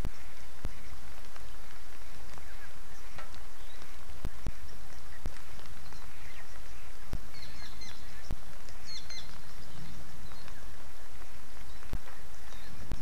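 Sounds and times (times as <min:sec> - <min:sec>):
bird chirping: 0:00.0 - 0:13.0
rain hiss: 0:00.0 - 0:13.0.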